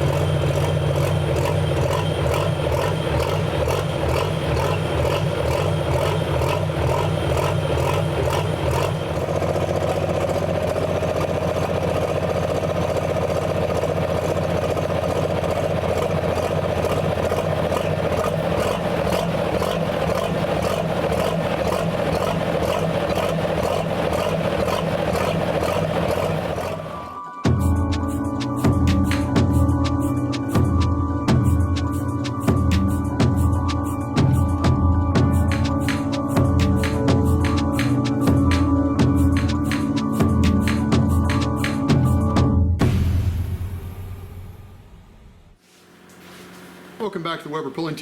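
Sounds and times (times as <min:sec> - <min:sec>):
diesel truck engine idling: 0:00.0 - 0:45.2.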